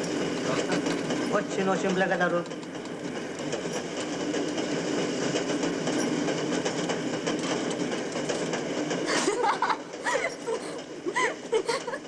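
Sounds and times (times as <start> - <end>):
train carriage rattling: 0.0 - 12.0.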